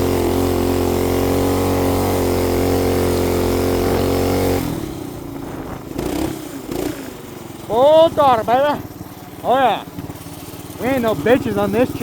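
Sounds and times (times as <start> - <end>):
small engine running at high speed: 0.0 - 12.0.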